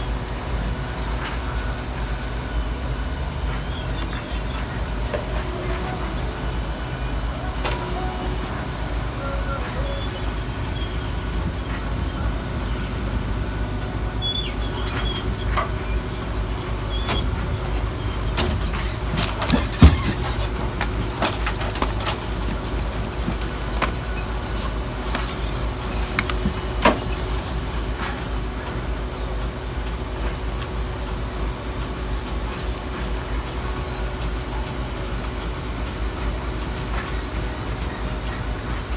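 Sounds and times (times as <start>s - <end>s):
garbage truck engine running: 0.0s - 38.9s.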